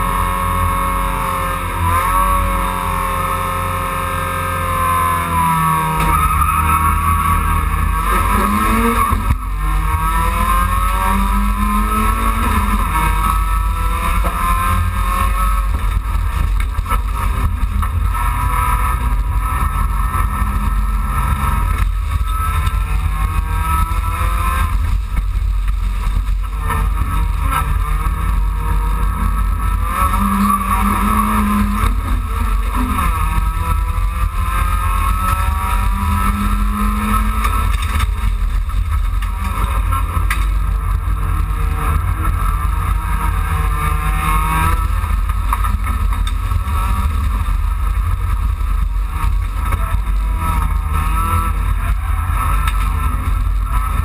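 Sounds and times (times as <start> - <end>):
car engine revving through gears: 0.0 - 54.0
heavy low rumble: 6.9 - 54.0.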